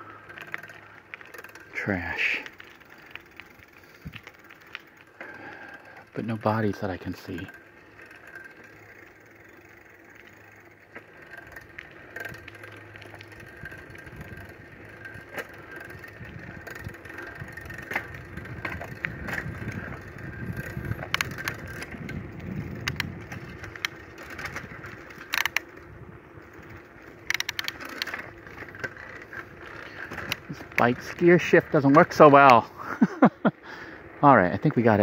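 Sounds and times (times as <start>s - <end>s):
bike clicks and rattles: 0.0s - 35.0s
tyres rumbling on dirt: 0.0s - 35.0s.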